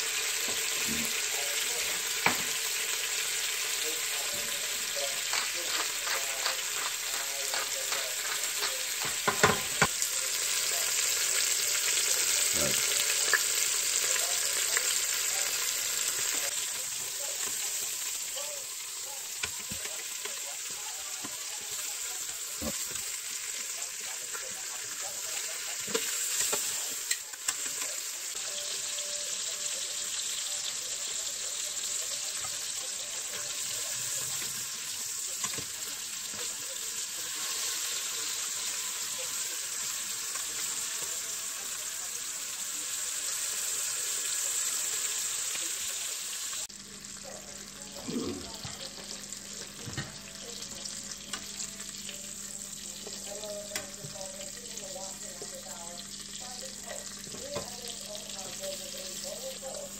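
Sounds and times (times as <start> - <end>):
meat sizzling in oil: 0.0 - 59.9.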